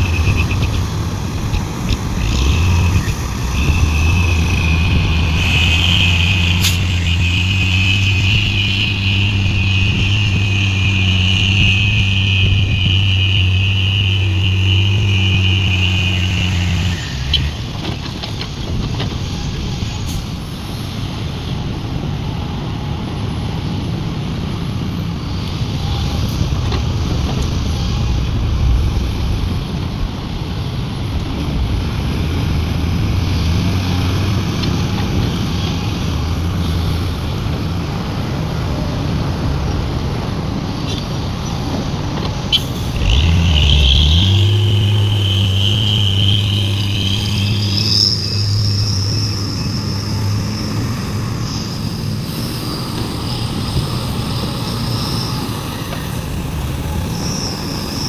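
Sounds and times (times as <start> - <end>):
heavy diesel engines rumbling: 0.0 - 58.0
high-pitched whine: 0.0 - 58.0.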